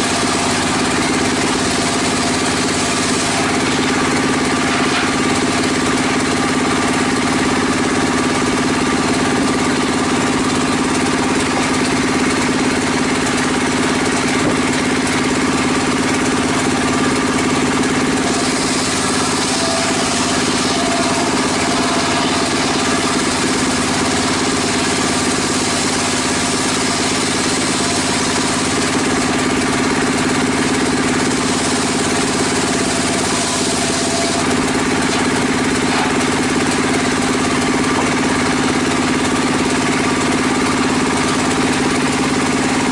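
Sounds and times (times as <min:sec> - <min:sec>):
saw ripping timber plank: 0:00.0 - 0:42.9
table saw humming: 0:00.0 - 0:42.9.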